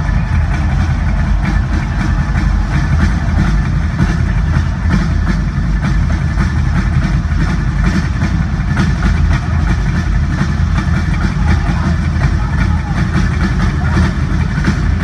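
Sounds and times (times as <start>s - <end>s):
fast rock drumming: 0.0s - 15.0s
heavy bass drum strokes: 0.0s - 15.0s.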